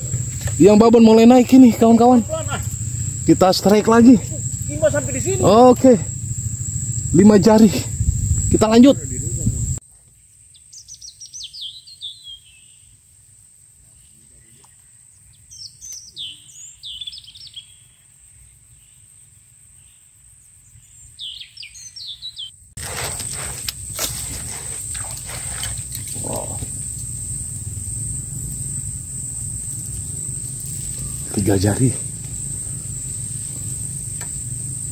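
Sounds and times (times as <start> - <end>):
birds chirping: 0.0 - 9.8, 10.5 - 12.9, 13.9 - 18.1, 19.8 - 22.6, 24.8 - 34.9.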